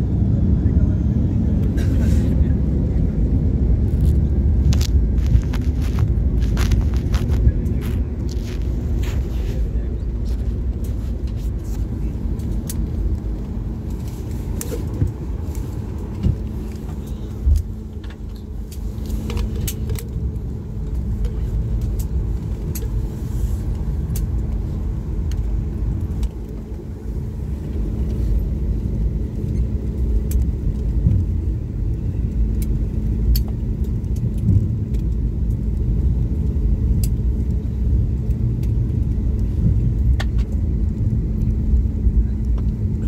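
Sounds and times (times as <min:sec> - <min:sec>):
airliner engines and wheels rumbling: 0:00.0 - 0:43.0
constant hum: 0:00.0 - 0:43.0.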